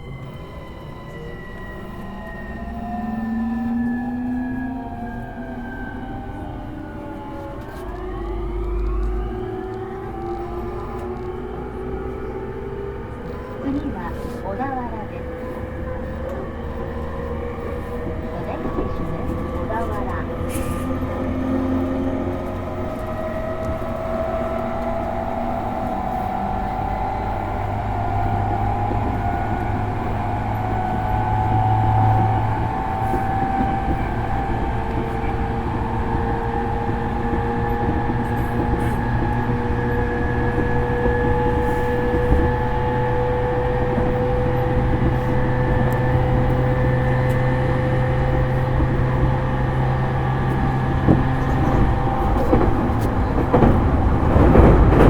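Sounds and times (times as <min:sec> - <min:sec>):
train motors whining: 0:00.0 - 0:55.0
wheels running on rails: 0:00.0 - 0:55.0.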